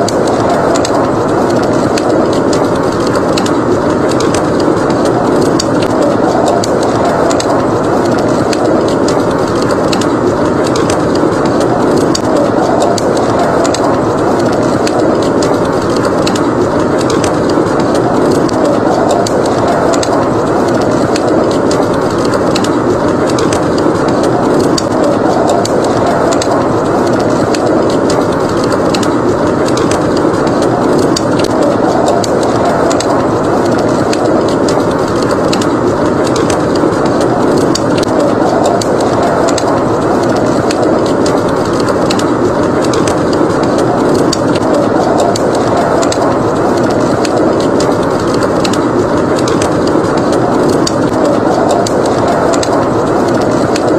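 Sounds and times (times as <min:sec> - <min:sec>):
blizzard wind rushing: 0:00.0 - 0:53.9
wood fire crackling: 0:00.0 - 0:53.9.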